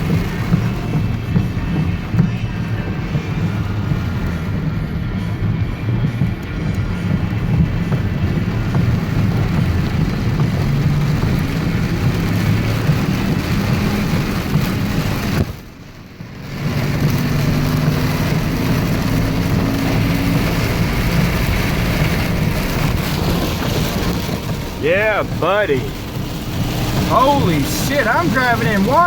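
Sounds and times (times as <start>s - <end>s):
heavy rain on truck: 0.0s - 29.0s
truck engine and road noise: 0.0s - 29.0s.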